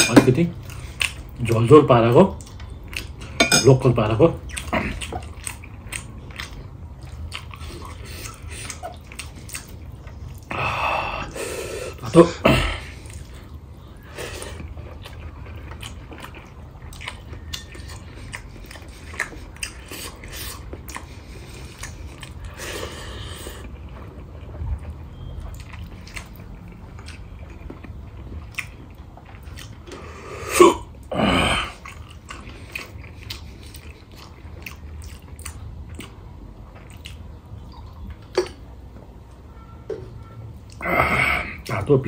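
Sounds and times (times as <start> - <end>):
person chewing food: 0.5 - 1.6, 2.2 - 3.5, 4.4 - 39.5.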